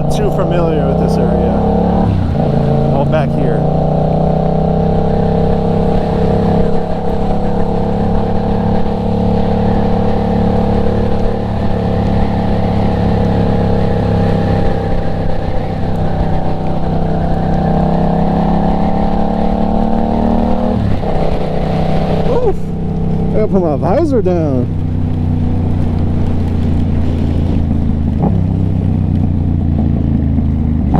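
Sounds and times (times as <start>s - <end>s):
motorcycle engine cruising: 0.0s - 30.9s.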